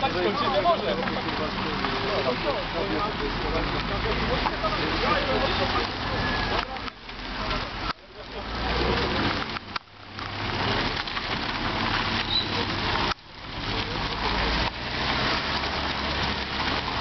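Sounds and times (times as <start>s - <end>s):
cars rolling past engine hum: 0.0s - 17.0s
steady crackling noise: 0.0s - 17.0s.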